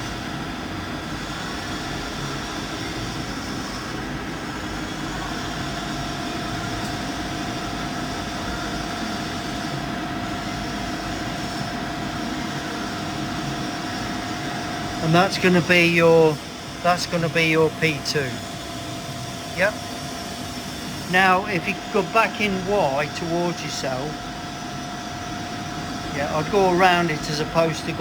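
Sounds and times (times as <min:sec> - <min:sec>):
milling machine hum: 0:00.0 - 0:28.0
thin steady whine: 0:00.0 - 0:28.0.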